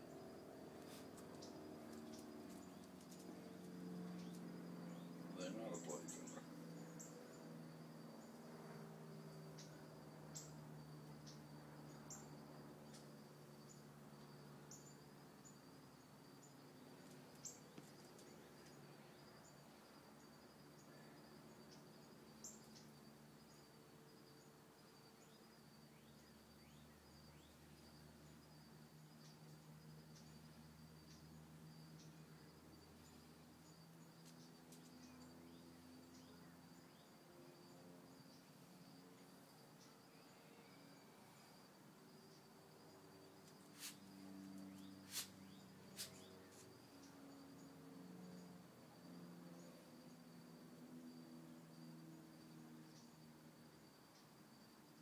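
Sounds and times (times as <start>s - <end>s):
faint low hum: 0.0s - 55.0s
insect chirping: 0.0s - 55.0s.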